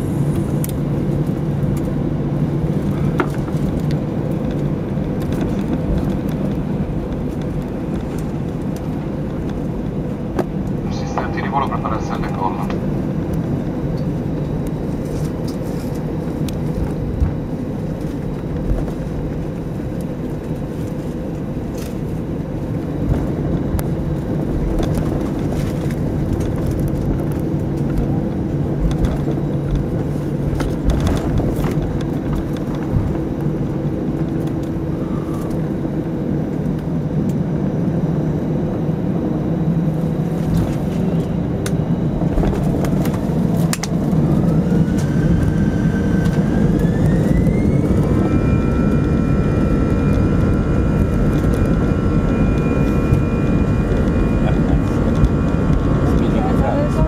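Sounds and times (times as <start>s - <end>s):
jet engine hum: 0.0s - 57.0s.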